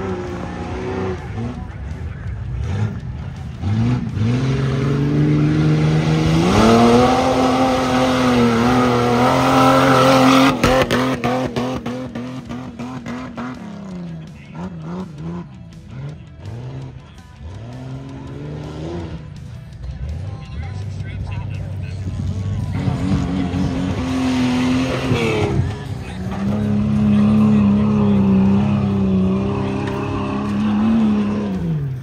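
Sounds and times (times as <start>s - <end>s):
engine revving hard: 2.6s - 19.3s, 22.2s - 32.0s.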